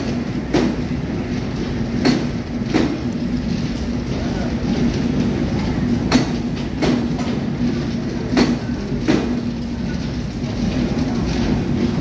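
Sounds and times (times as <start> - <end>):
train coaches rumbling past: 0.0 - 12.0
wheels clacking over rail joint: 0.0 - 12.0.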